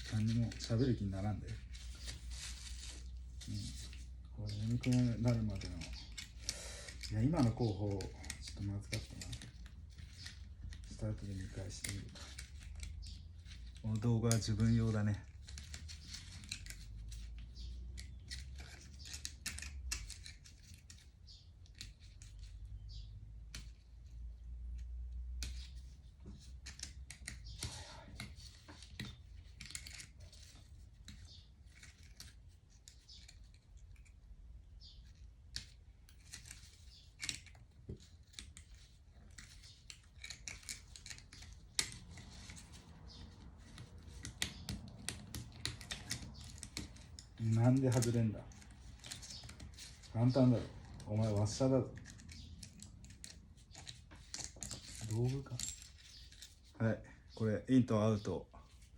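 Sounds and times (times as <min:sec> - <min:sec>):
tools and metal parts clicking: 0:00.0 - 0:56.8.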